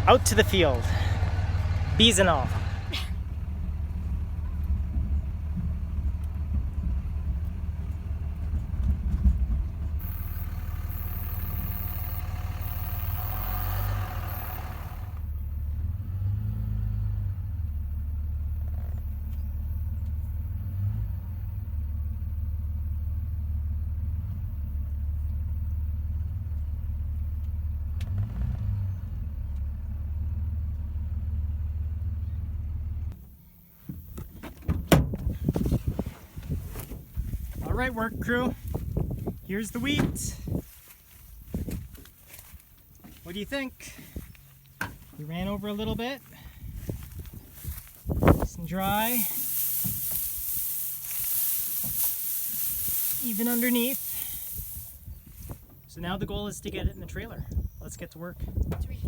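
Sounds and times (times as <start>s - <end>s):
vehicle engine low rumble: 0.0s - 59.0s.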